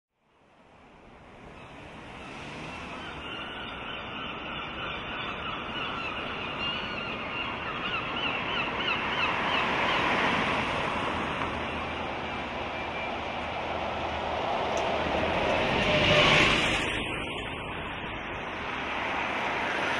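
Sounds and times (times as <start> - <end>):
traffic noise: 0.2 - 19.9
gulls calling: 1.4 - 19.8.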